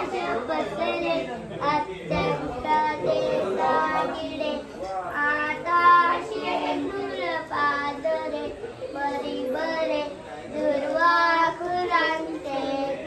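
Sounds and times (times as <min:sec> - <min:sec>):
child chanting a prayer: 0:00.0 - 0:13.0.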